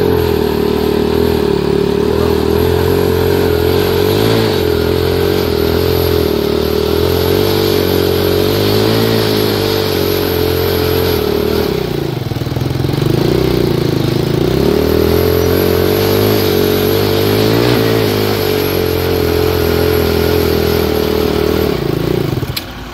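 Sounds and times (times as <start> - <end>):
tractor engines under load: 0.0 - 22.9
wheels spinning in dirt: 0.0 - 22.9.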